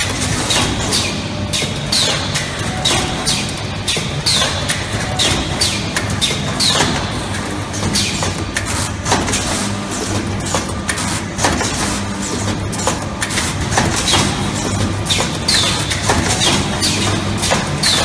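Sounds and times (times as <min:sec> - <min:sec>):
welding machine hum: 0:00.0 - 0:18.0.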